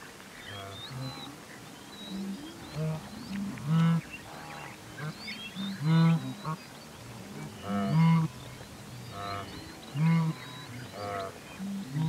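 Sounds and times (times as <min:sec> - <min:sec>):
birds chirping faintly: 0:00.0 - 0:12.0
wildebeest calling: 0:00.4 - 0:12.0.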